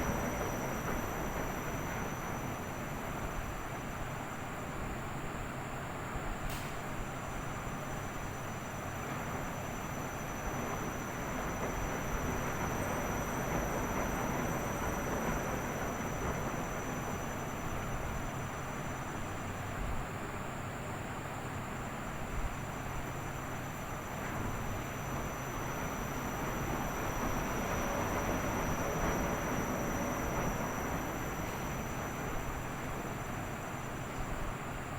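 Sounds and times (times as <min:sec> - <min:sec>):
faint high whine: 0:00.0 - 0:34.9.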